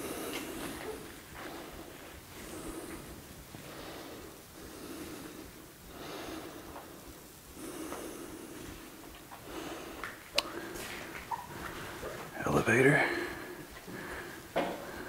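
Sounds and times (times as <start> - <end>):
person breathing heavily: 0.0 - 12.3, 12.9 - 15.0.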